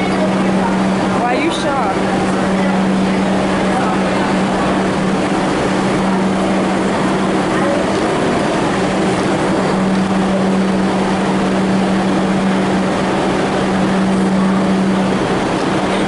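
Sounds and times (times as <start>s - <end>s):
vehicle running: 0.0s - 16.0s.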